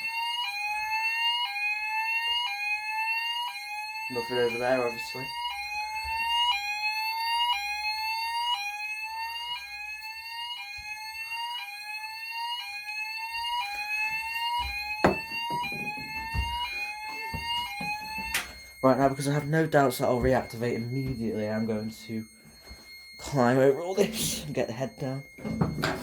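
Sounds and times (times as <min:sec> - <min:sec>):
fire alarm sweeping tone: 0:00.0 - 0:26.0.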